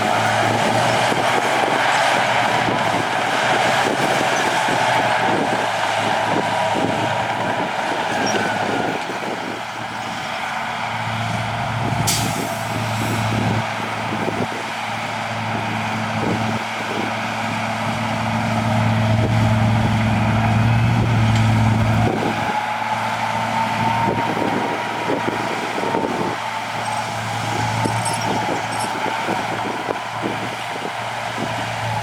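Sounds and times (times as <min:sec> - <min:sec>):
diesel machinery engine hum: 0:00.0 - 0:32.0.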